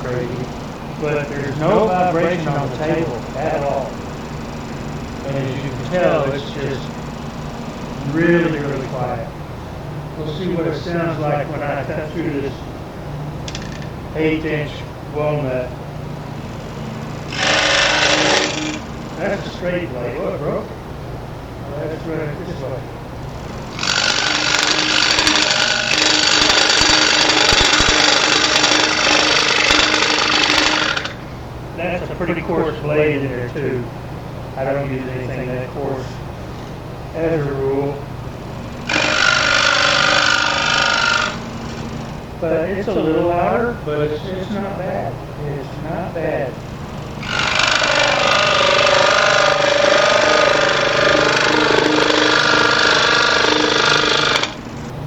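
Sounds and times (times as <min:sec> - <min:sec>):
scroll saw cutting wood: 0:00.0 - 0:20.9, 0:21.9 - 0:34.0, 0:34.6 - 0:44.8, 0:45.9 - 0:55.0.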